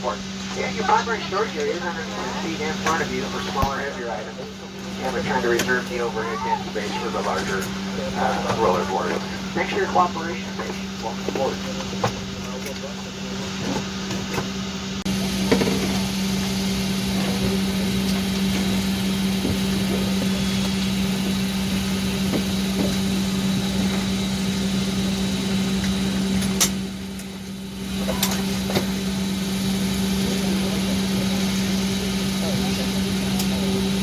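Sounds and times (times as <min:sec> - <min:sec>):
cabin ventilation hum: 0:00.0 - 0:34.0.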